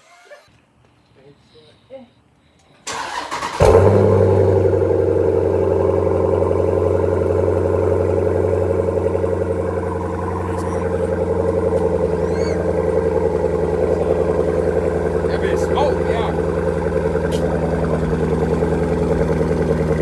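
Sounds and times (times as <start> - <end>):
car engine idling: 2.9 - 20.0.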